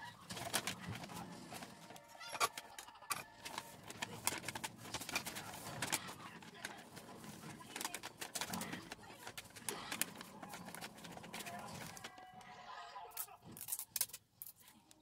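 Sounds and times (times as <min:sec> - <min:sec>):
paper bag crinkling: 0:00.0 - 0:12.4.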